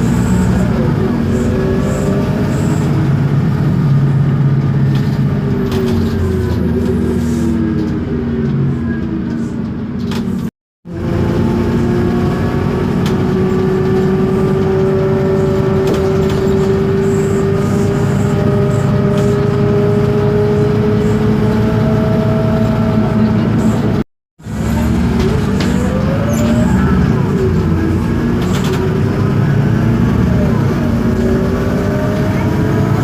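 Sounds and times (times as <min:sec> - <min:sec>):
bus engine and drivetrain whine: 0:00.0 - 0:33.0.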